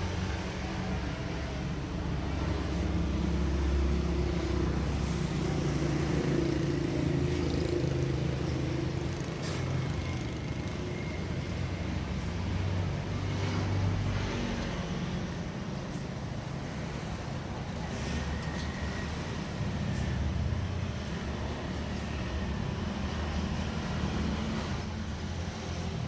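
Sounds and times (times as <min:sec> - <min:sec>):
vehicle engines passing: 0:00.0 - 0:26.0.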